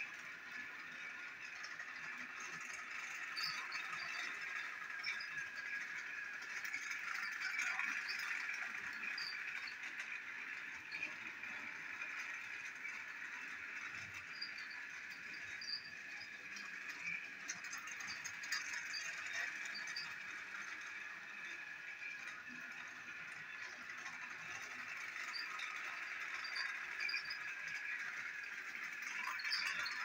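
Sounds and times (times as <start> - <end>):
toy train motor whirring: 0.0 - 30.0
toy train wheels rattling: 0.0 - 30.0.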